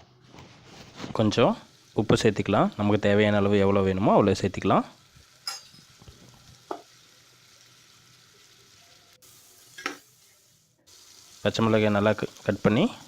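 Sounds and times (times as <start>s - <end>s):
onions frying in a pan: 0.4s - 13.0s.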